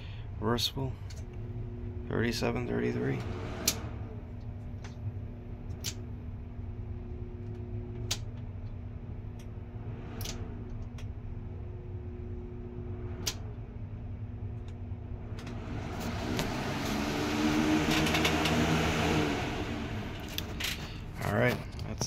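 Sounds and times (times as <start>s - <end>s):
box fan humming: 0.0s - 22.0s.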